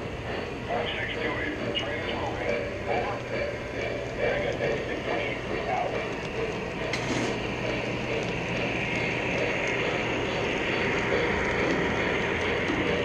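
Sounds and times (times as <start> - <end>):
low hum: 0.0 - 13.0
model train wheels rumbling: 0.0 - 13.0.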